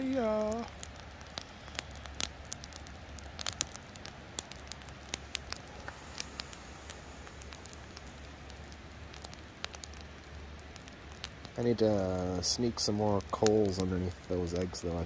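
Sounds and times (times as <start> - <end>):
campfire coals crackling: 0.0 - 15.0.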